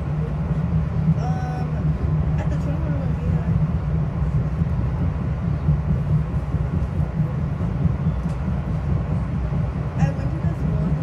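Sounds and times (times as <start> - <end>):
train rushing noise: 0.0 - 11.0
train wheels rumbling: 0.0 - 11.0.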